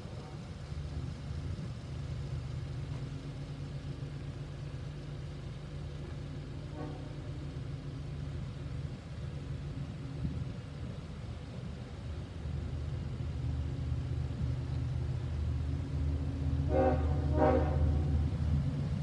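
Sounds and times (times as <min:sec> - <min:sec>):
diesel locomotive drone: 0:00.0 - 0:19.0.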